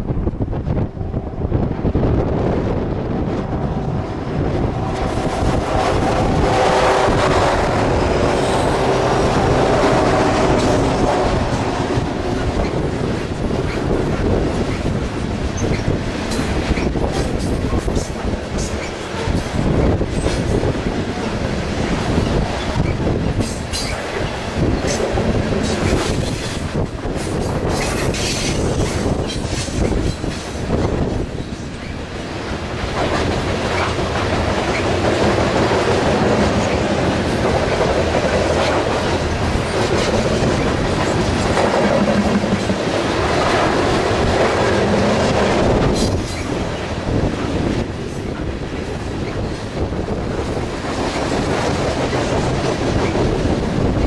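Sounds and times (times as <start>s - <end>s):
diesel locomotives passing: 0.0s - 54.0s
wind buffeting microphone: 0.0s - 54.0s
train wheels clattering on rails: 2.4s - 54.0s.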